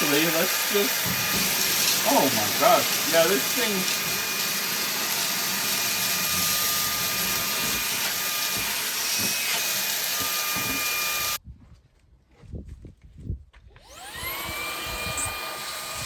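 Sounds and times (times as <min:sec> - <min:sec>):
hand vacuum running: 0:00.0 - 0:11.4, 0:13.8 - 0:16.0.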